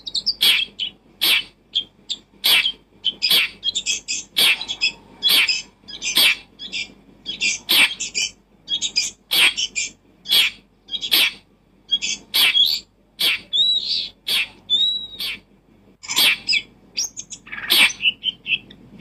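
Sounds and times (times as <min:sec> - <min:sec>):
small animal raspy chirps: 0:00.0 - 0:15.4.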